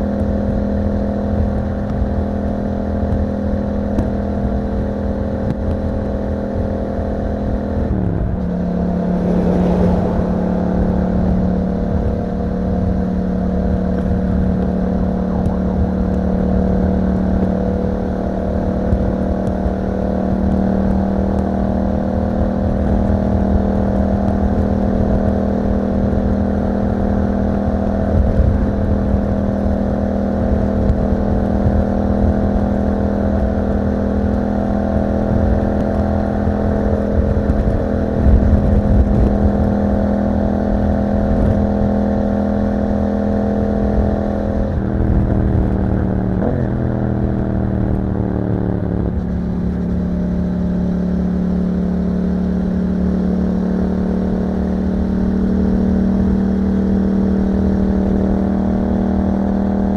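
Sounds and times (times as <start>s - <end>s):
low wind rumble: 0.0s - 59.9s
motorcycle engine running: 0.0s - 59.9s.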